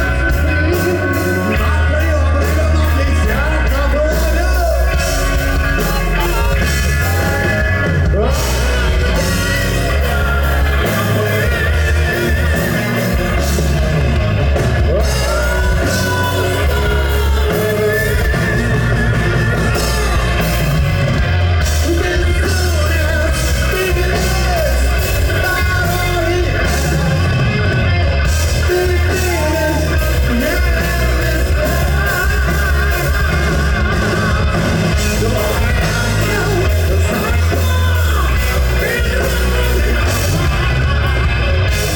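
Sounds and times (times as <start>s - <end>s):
live rock band playing: 0.0s - 41.9s
person singing: 0.0s - 41.9s.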